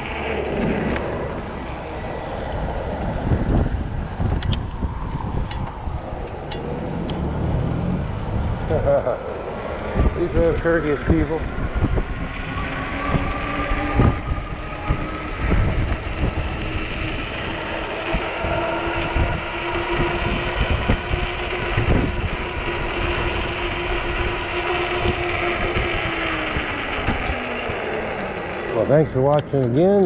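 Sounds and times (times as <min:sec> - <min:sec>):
electric motor whining: 0:00.0 - 0:30.0
wind rumbling on microphone: 0:00.0 - 0:30.0.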